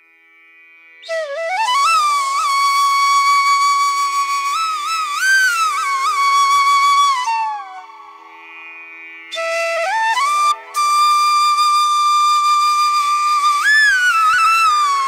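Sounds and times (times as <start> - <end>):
flute-like melody: 1.0 - 8.3, 9.3 - 15.0.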